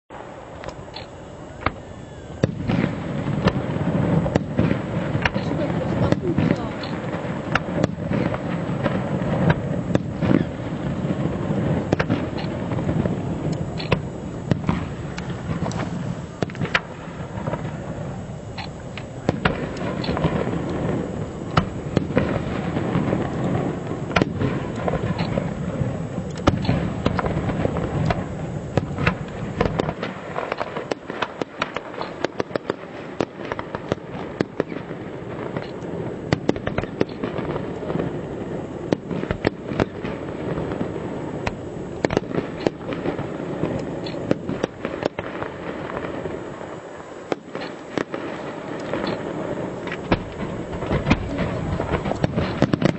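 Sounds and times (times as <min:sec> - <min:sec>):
fireworks bangs and crackles: 0:00.1 - 0:52.9.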